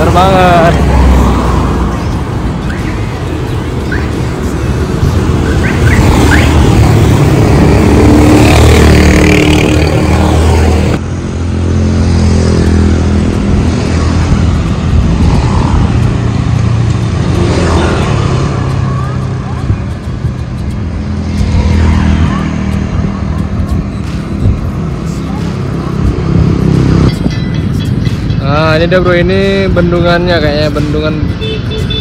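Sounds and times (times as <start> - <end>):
road and wind noise: 0.0 - 32.0.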